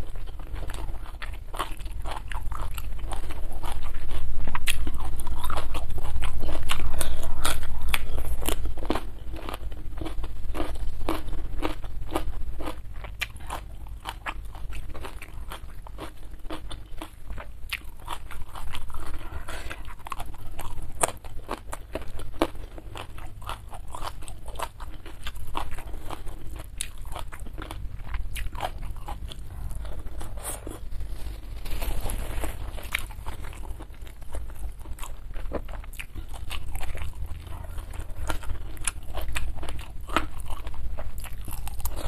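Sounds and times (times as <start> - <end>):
crunchy chewing of raw vegetables: 0.0 - 42.0.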